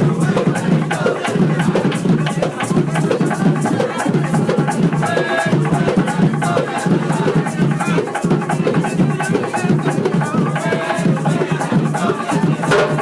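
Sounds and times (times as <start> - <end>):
music with quick percussion beat: 0.0 - 13.0.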